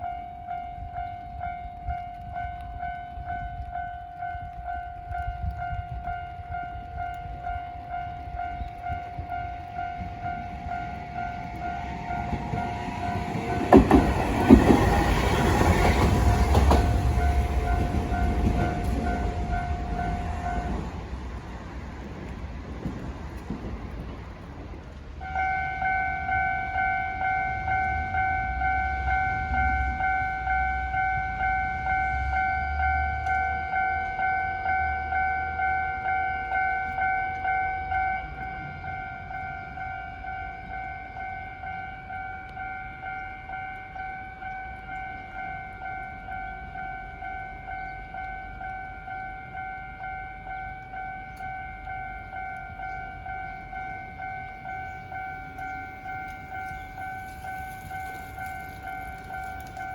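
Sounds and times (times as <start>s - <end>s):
railway crossing bell ringing: 0.0s - 24.4s, 25.2s - 59.9s.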